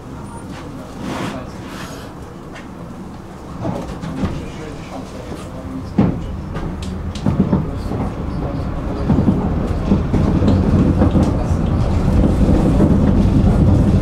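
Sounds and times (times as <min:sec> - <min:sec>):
tram rumbling on rails: 0:00.0 - 0:14.0
wheels clacking over rail joints: 0:01.3 - 0:14.0.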